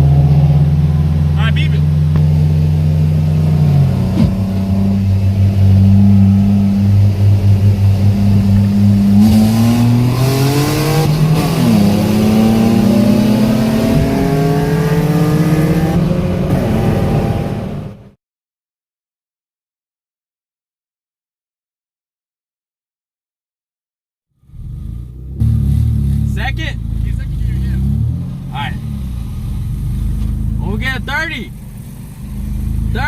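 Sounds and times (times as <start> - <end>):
car engine accelerating: 0.0 - 18.2, 24.4 - 33.0.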